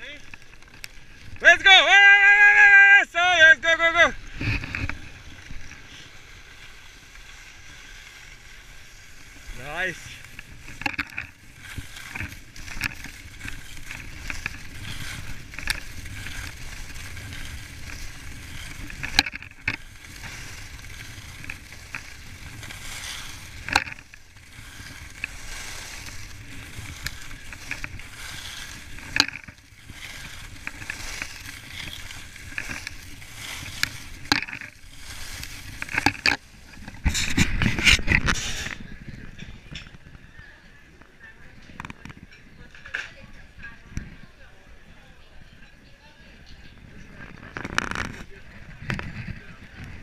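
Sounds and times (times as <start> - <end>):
skis scraping over snow: 0.0 - 50.0
wind rumbling on microphone: 4.0 - 50.0.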